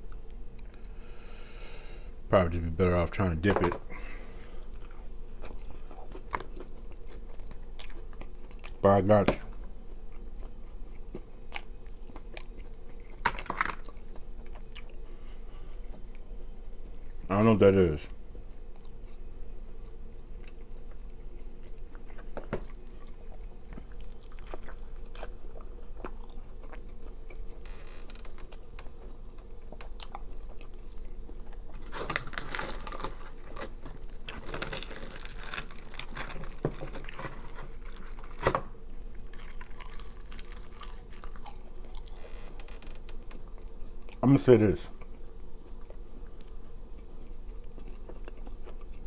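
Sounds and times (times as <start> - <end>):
person chewing food: 3.9 - 8.8, 9.5 - 17.3, 18.4 - 44.2, 44.9 - 49.0.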